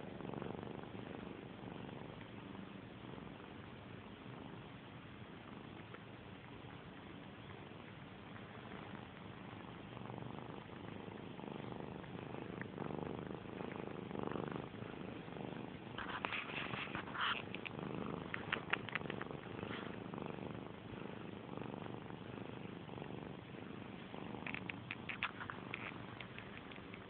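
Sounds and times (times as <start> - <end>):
kitten purring: 0.0 - 27.0.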